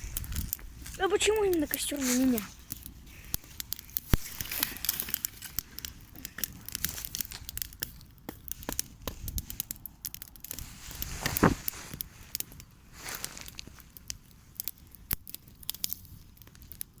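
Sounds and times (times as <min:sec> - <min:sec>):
campfire twigs crackling and snapping: 0:00.0 - 0:17.0.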